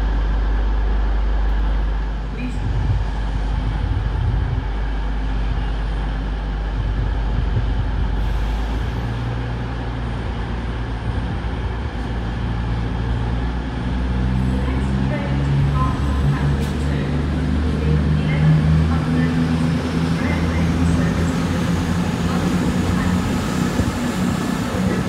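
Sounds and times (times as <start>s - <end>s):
train diesel engines droning: 0.0s - 25.0s.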